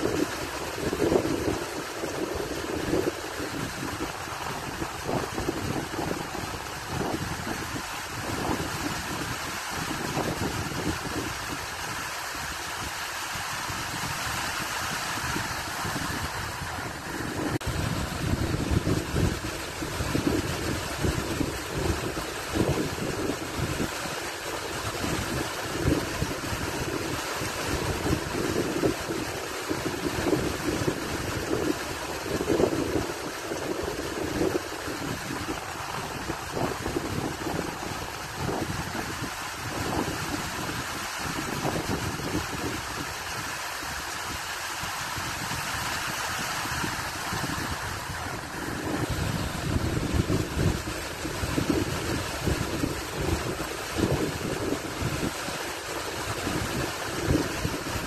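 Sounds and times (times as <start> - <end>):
water rushing into whitewater: 0.0 - 58.0
wind buffeting microphone: 0.0 - 58.0.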